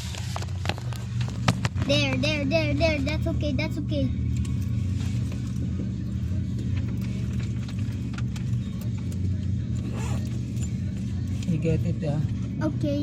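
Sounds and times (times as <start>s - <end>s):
car engine hum inside cabin: 0.0s - 13.0s.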